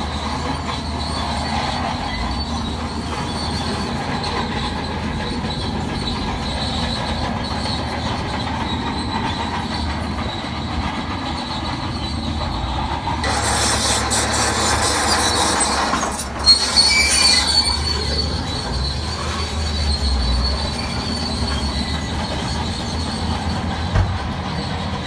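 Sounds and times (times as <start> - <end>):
bulldozer engine drone: 0.0 - 25.0
steel tracks squealing and clanking: 0.0 - 25.0.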